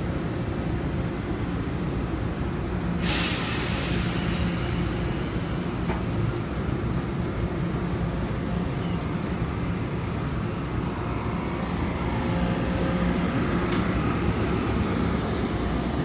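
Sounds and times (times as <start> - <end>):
train motors rumbling and humming: 0.0 - 16.0.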